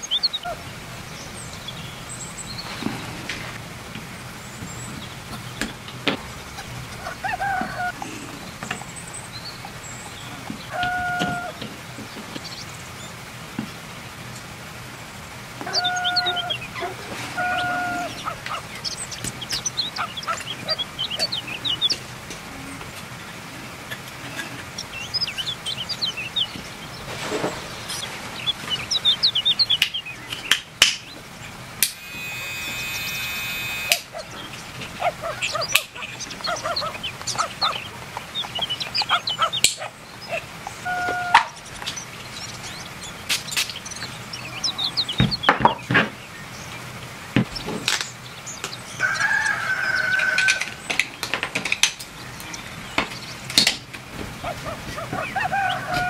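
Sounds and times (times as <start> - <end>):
steady-pitched bird calls: 0.0 - 51.2, 52.1 - 56.0
birds chirping: 0.0 - 56.0.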